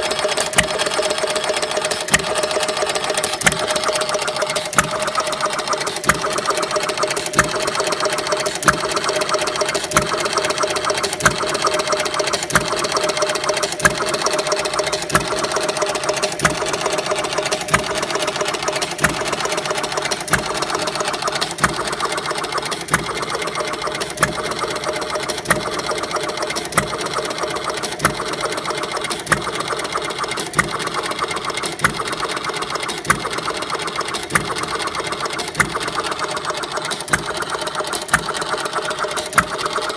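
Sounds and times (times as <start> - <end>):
gas engine clattering: 0.0 - 39.9.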